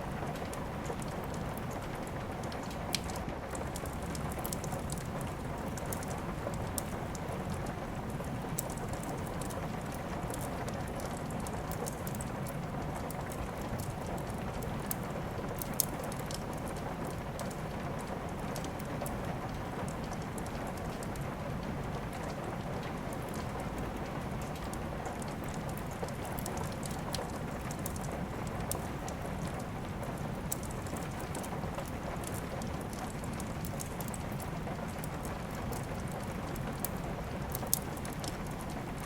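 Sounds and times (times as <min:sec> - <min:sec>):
fire crackling: 0:00.0 - 0:39.0
steady rain: 0:00.0 - 0:39.0.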